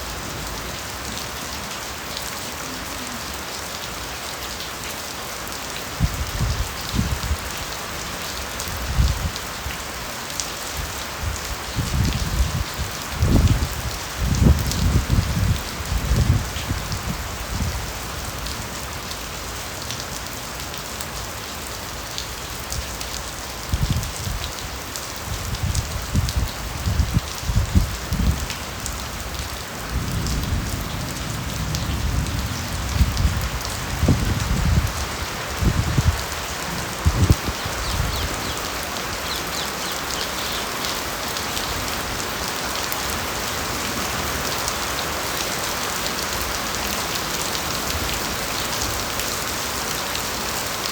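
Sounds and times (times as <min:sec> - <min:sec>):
rain on foliage: 0:00.0 - 0:50.9.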